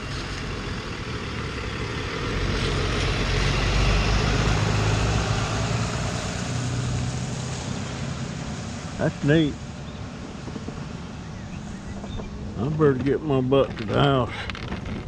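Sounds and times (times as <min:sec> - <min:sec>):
pickup truck driving past: 0:00.0 - 0:14.3.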